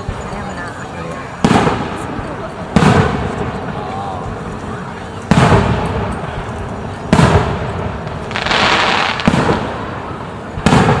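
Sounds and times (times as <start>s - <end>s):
fireworks booming: 0.0s - 11.0s
fireworks crackling shower: 0.0s - 11.0s.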